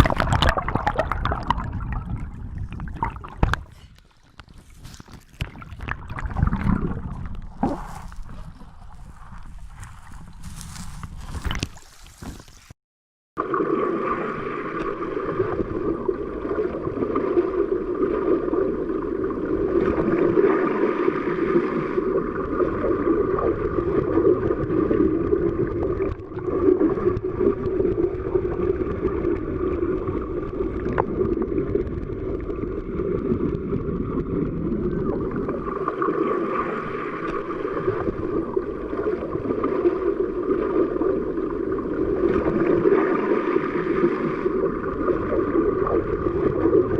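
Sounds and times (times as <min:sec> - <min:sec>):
underwater churning water: 0:00.0 - 0:12.2, 0:13.4 - 0:46.9.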